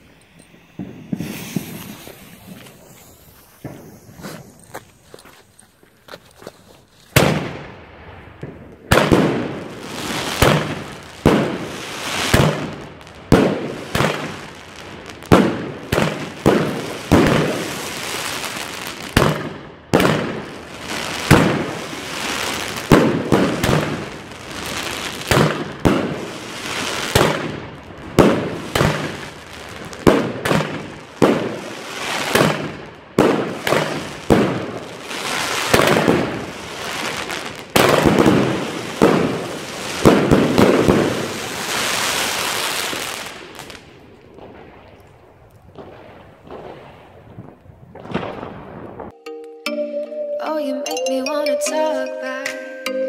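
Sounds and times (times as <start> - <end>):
fireworks sharp bangs: 0.0 - 5.2, 7.1 - 44.9.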